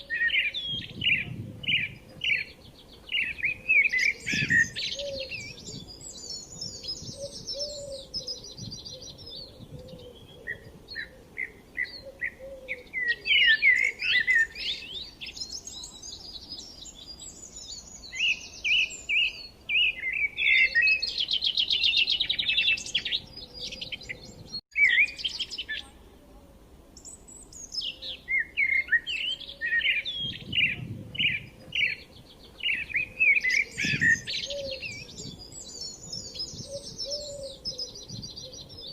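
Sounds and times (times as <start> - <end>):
birds chirping and trilling: 0.0 - 26.1, 27.0 - 38.9.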